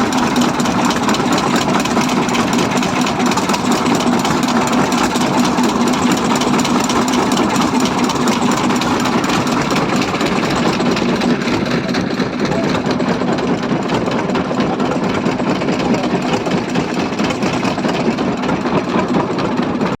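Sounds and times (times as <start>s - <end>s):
diesel boat engines running: 0.0s - 20.0s.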